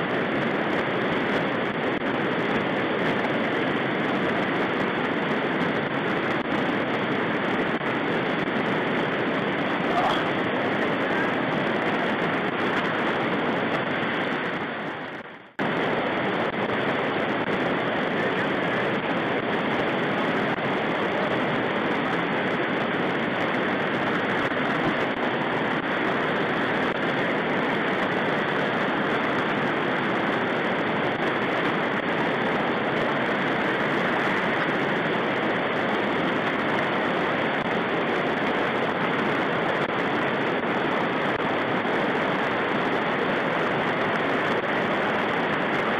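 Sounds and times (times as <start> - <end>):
water rushing over rocks: 0.0 - 45.9.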